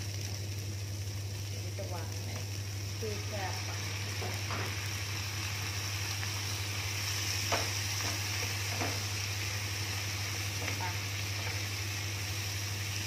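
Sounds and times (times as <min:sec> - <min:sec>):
steady low hum: 0:00.0 - 0:13.0
vegetables sizzling in frying pan: 0:00.0 - 0:13.0.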